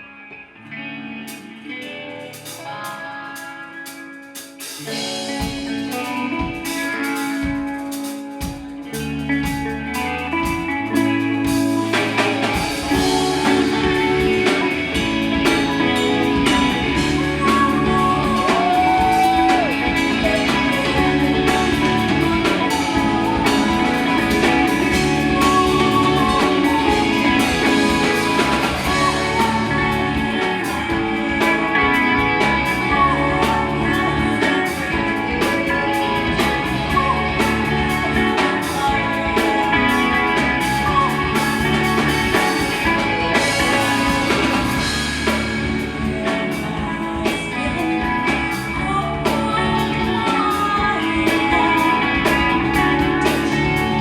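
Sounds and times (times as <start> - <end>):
live rock band playing: 0.0 - 54.0
bass notes: 8.6 - 54.0.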